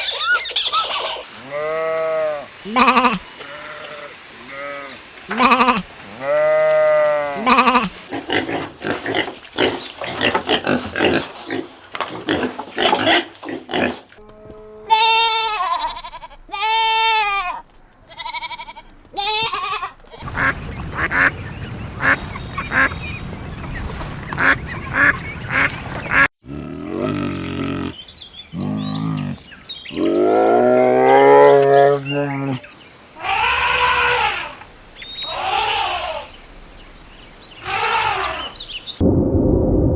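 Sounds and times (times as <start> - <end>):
farm animals calling: 0.0 - 39.0.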